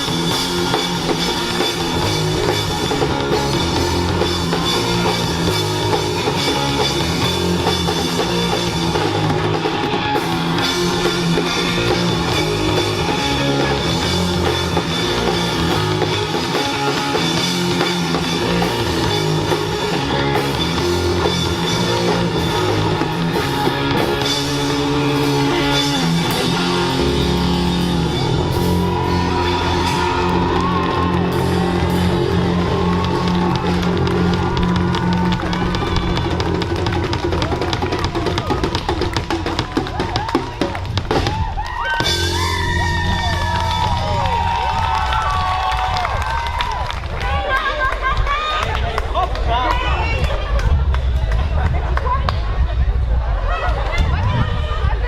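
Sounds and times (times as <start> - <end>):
drum kit: 0.0 - 46.8
bass guitar: 0.0 - 55.0
electric guitar: 0.0 - 55.0.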